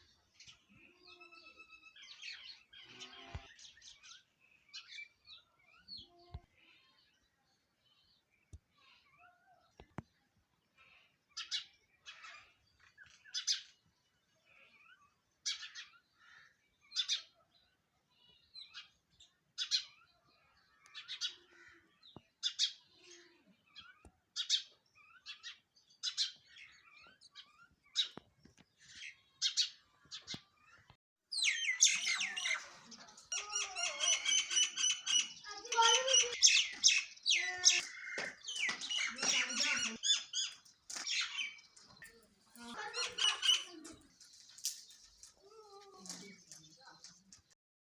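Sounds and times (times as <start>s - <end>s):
sparrows chirping: 0.0s - 47.6s.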